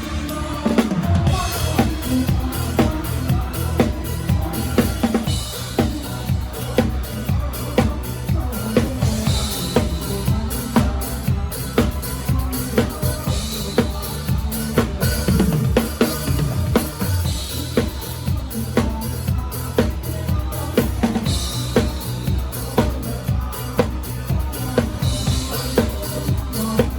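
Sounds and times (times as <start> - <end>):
bass guitar: 0.0 - 26.9
kick and snare drum groove: 0.8 - 26.9.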